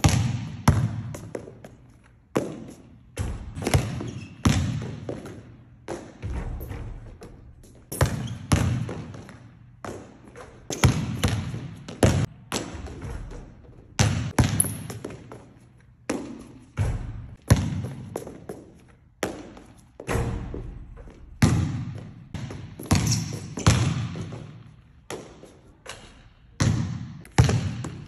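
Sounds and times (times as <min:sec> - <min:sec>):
basketball bouncing on court: 0:00.0 - 0:28.0.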